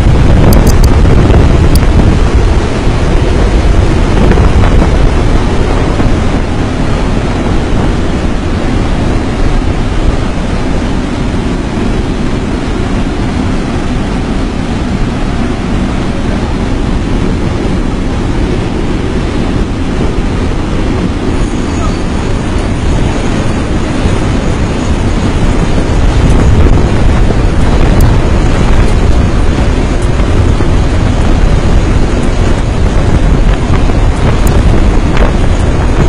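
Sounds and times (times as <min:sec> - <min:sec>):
airplane engine noise: 0:00.0 - 0:36.0
wind buffeting microphone: 0:00.0 - 0:36.0
wind rushing: 0:00.0 - 0:36.0.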